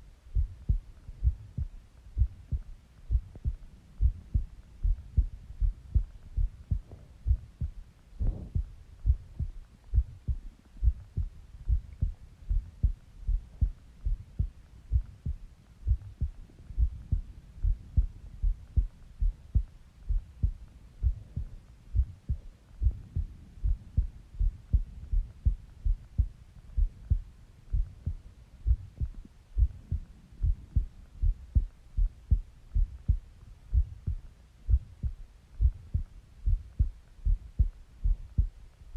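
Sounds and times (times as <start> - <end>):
heartbeat thumps: 0.3 - 38.6.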